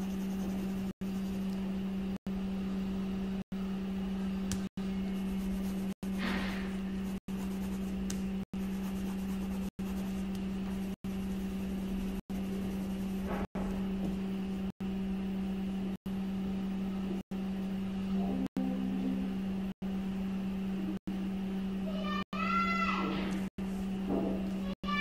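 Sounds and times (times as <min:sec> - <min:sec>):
steady low hum: 0:00.0 - 0:22.2, 0:23.2 - 0:25.0.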